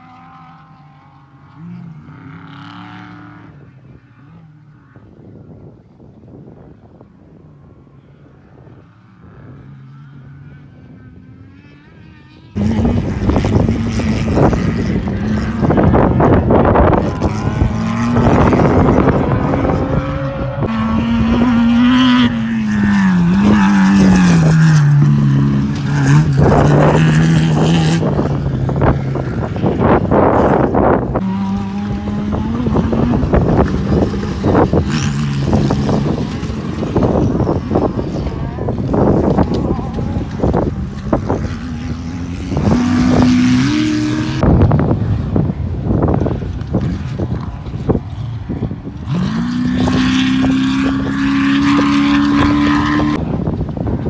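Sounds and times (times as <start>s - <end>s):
wind buffeting microphone: 2.9s - 54.0s
race car engine revving: 8.4s - 54.0s.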